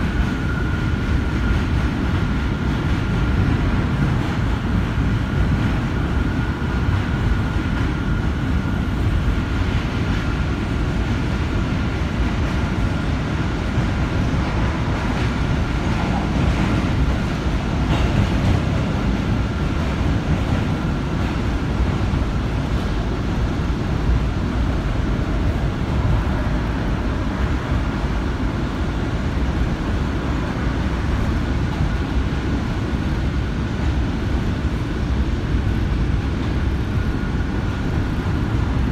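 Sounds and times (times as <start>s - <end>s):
subway train wheels rumbling: 0.0s - 38.9s.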